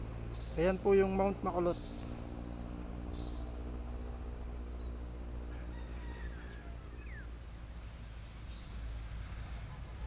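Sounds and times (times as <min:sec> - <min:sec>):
small birds chirping: 0:00.0 - 0:10.0
steady low rumble: 0:00.0 - 0:10.0
vehicle engine hum: 0:00.0 - 0:10.0.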